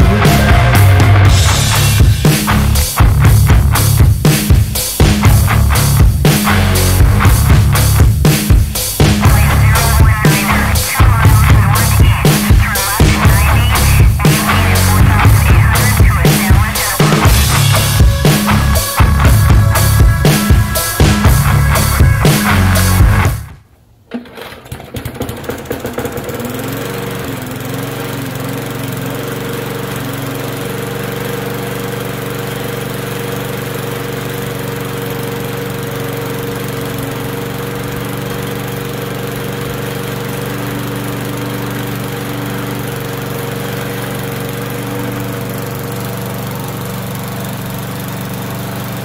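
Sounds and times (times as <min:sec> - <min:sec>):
lawn mower engine starting and running: 0:00.0 - 0:04.0, 0:05.2 - 0:08.0, 0:09.0 - 0:49.0.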